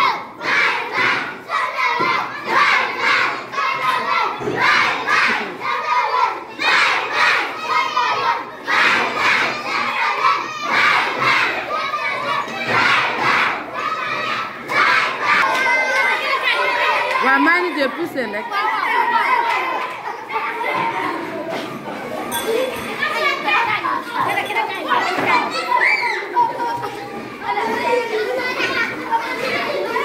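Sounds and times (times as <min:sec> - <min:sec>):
children shouting and cheering: 0:00.0 - 0:30.0.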